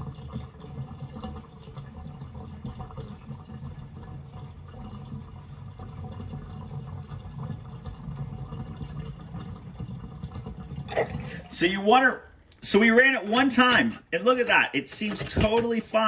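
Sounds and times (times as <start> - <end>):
water draining down sink: 0.0 - 16.0.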